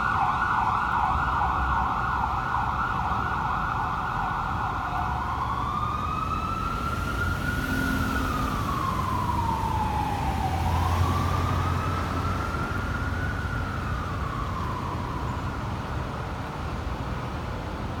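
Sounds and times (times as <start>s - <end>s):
fire engine siren wailing: 0.0s - 16.7s.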